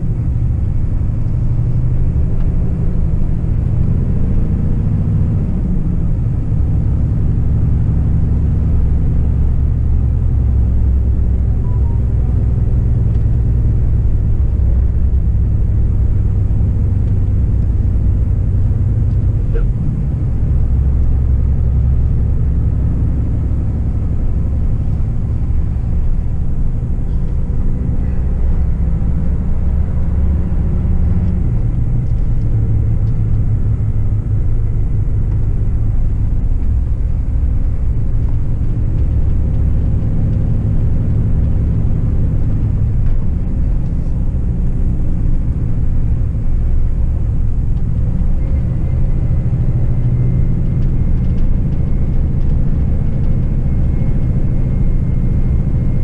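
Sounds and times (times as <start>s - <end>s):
truck diesel engine rumble: 0.0s - 56.0s.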